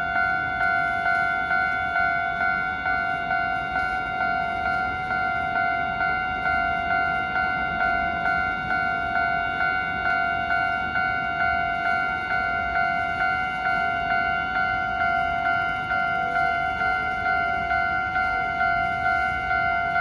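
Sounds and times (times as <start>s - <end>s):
level crossing bell ringing: 0.0s - 20.0s.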